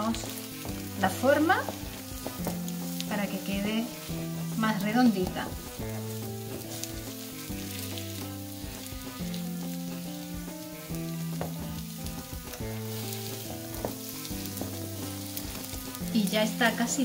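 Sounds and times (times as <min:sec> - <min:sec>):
background music with held chords: 0:00.0 - 0:17.0
omelette sizzling in a pan: 0:00.0 - 0:17.0.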